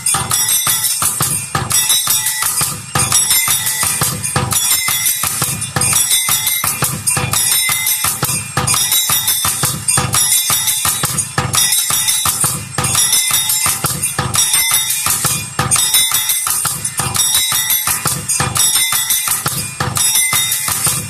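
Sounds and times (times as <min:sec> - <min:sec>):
bells jingling: 0:00.0 - 0:21.0.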